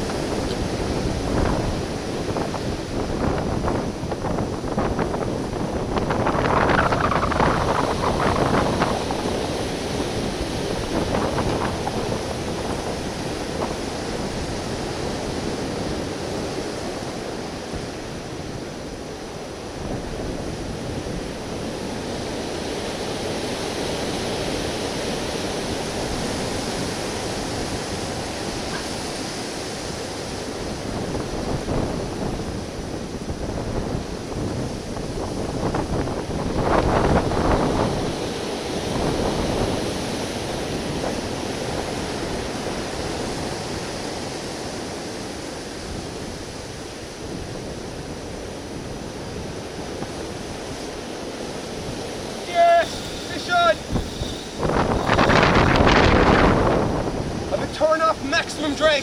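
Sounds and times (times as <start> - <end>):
ocean waves breaking on rocks: 0.0 - 59.0
wind buffeting microphone: 0.0 - 59.0.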